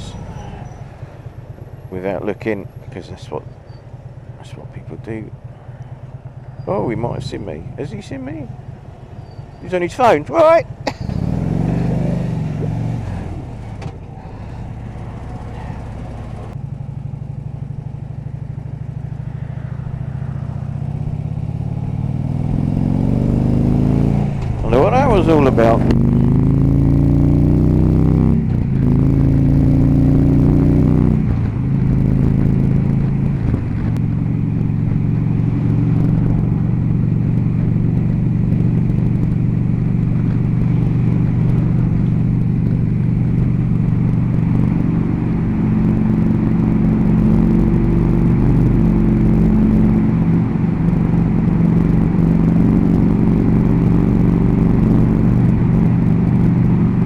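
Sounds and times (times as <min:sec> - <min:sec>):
motorcycle engine shifting gears: 0:00.0 - 0:57.0.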